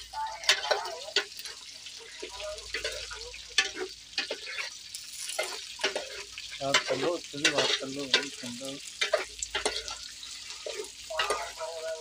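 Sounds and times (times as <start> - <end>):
frying sizzle: 0.0 - 12.0
metal spoon scraping a pot: 0.4 - 12.0.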